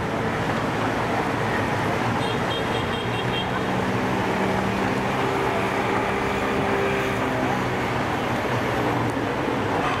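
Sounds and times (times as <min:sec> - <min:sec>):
motorbike engines humming: 0:00.0 - 0:10.0.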